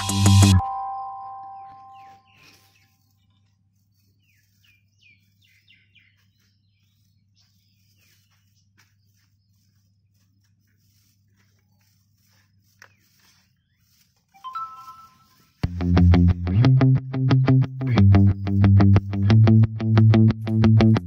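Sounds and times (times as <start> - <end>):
bird chirps: 0.0 - 15.6, 17.4 - 20.0.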